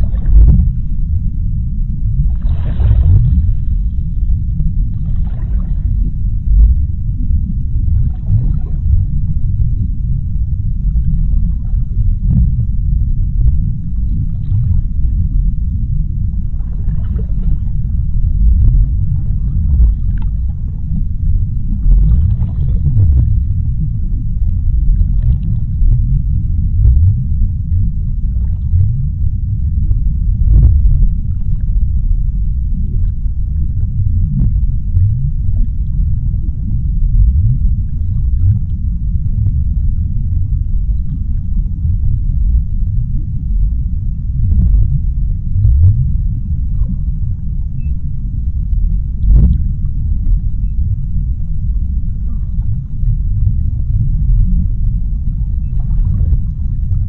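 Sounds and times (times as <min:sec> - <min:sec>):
faint underwater clicks and crackles: 0:00.0 - 0:57.0
underwater deep rumble: 0:00.0 - 0:57.0.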